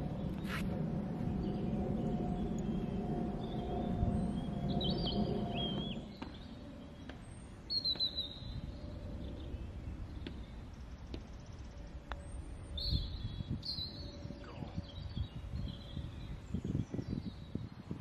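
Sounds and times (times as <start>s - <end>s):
low background rumble: 0.0s - 18.0s
small songbirds chirping: 1.2s - 18.0s.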